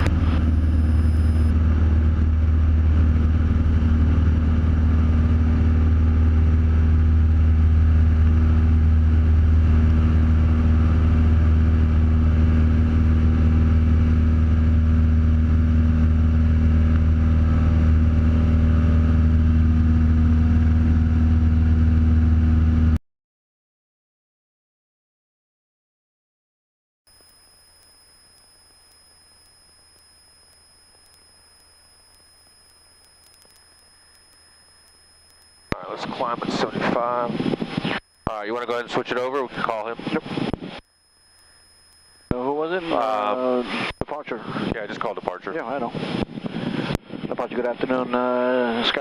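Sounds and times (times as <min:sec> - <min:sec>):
propeller plane engine drone: 0:00.0 - 0:23.0, 0:27.1 - 0:49.0.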